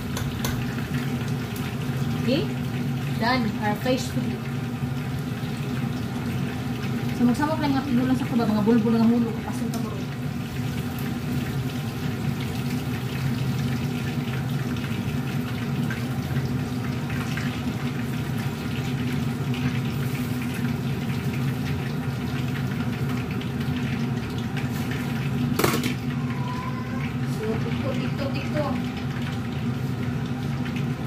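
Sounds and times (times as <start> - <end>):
fish sizzling in oil: 0.0 - 31.0
range hood fan hum: 0.0 - 31.0.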